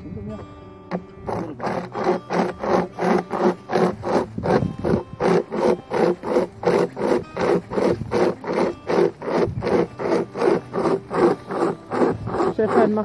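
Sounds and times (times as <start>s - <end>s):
hand saw cutting wood: 0.9s - 13.0s.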